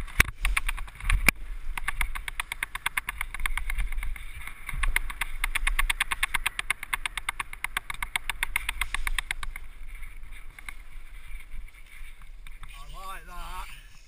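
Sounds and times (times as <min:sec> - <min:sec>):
mountain bike riding rumble: 0:00.0 - 0:14.0.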